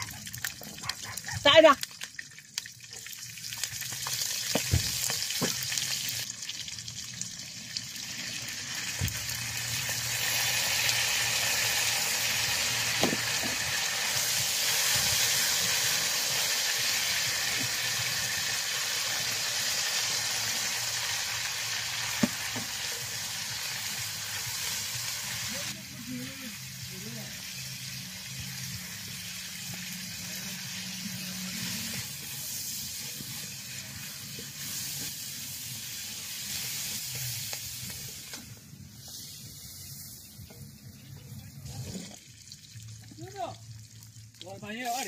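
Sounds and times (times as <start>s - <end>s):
meat sizzling in a wok: 0.0s - 45.0s.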